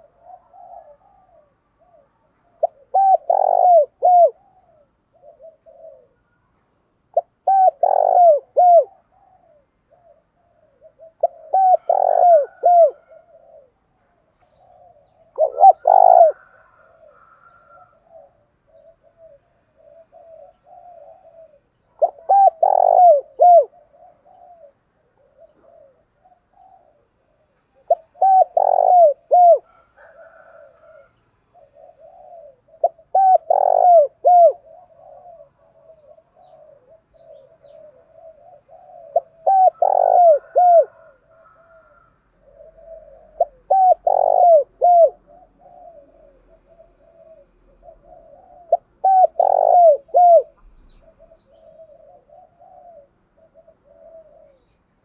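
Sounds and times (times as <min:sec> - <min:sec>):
dove cooing: 0:00.0 - 0:55.0
fainter cooing: 0:02.6 - 0:06.2, 0:07.4 - 0:09.6, 0:10.7 - 0:13.8, 0:14.5 - 0:27.0, 0:27.8 - 0:54.6.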